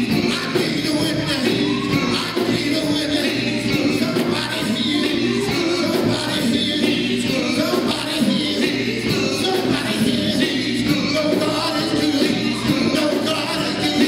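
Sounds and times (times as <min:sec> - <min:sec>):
bass guitar: 0:00.0 - 0:14.0
drums: 0:00.0 - 0:14.0
men singing: 0:00.0 - 0:14.0.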